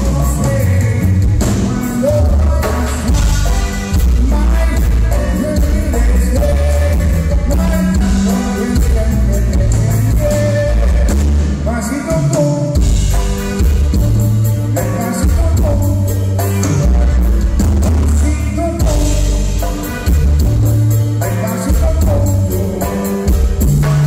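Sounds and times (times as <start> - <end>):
button accordion: 0.0 - 24.0
live band playing: 0.0 - 24.0.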